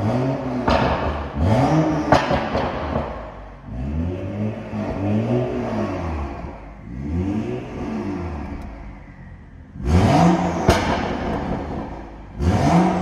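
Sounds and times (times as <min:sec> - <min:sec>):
car engine revving: 0:00.0 - 0:13.0
exhaust crack: 0:00.0 - 0:13.0.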